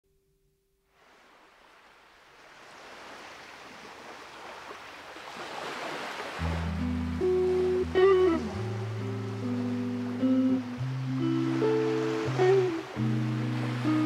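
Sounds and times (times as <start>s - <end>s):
ocean surf: 0.9s - 14.0s.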